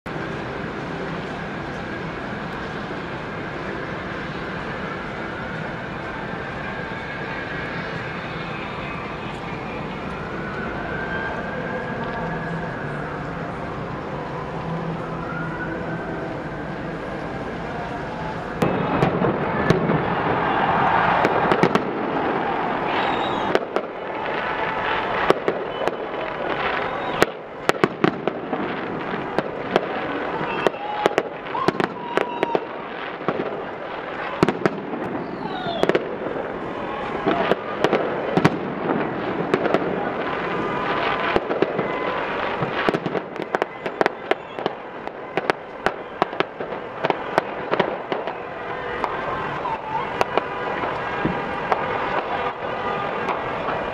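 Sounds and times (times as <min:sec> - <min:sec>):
steady rush of noise: 0:00.0 - 0:53.9
fireworks bangs and crackles: 0:00.1 - 0:53.9.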